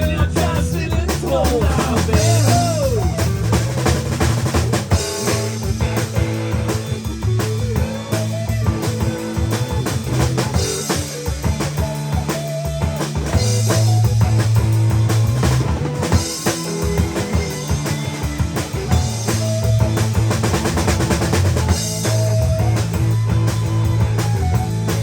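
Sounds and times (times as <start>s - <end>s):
bass drum and snare beat: 0.0s - 25.0s
rock band playing: 0.0s - 25.0s.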